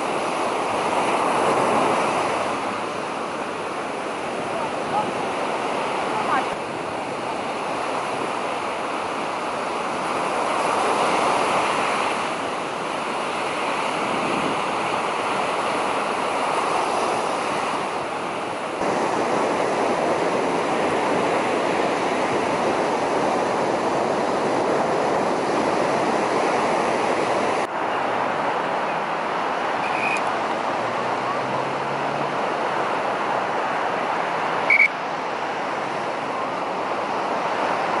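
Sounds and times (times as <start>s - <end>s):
surf breaking on beach: 0.0s - 38.0s.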